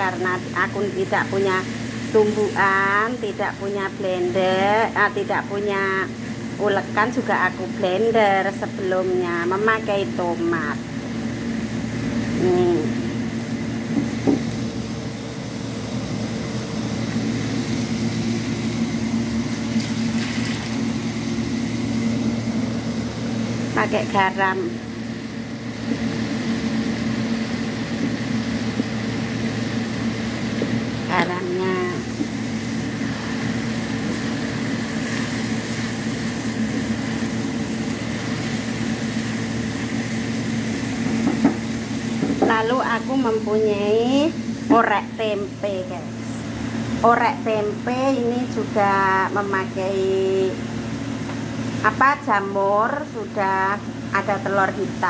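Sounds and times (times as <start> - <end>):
low machine hum: 0.0 - 55.0
vegetables sizzling in a wok: 0.0 - 55.0.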